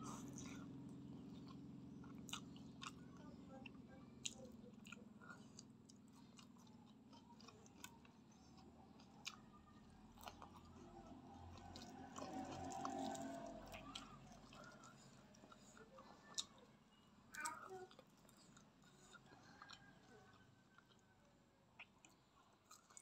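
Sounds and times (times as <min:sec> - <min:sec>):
quiet chewing: 0:00.0 - 0:23.0.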